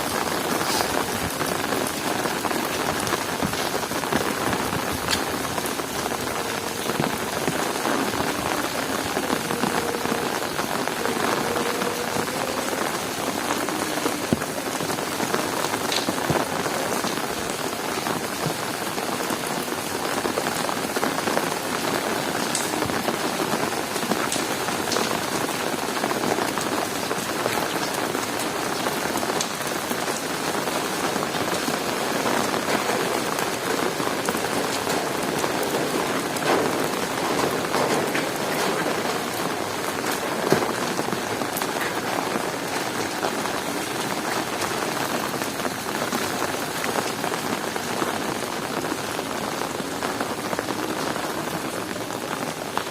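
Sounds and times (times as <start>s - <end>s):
sharp raindrop ticks: 0.0s - 52.0s
heavy rain on hard surfaces: 0.0s - 52.9s.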